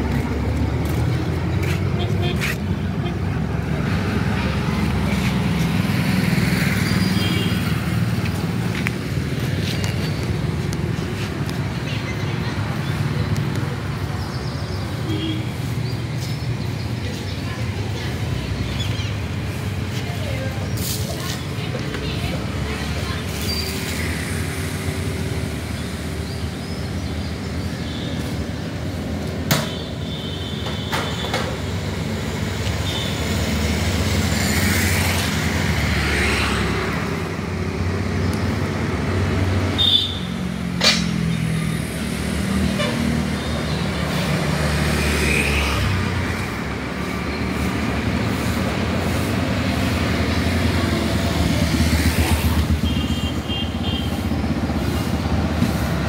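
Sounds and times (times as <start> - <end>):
rumble of passing engines: 0.0 - 30.0, 31.3 - 56.0.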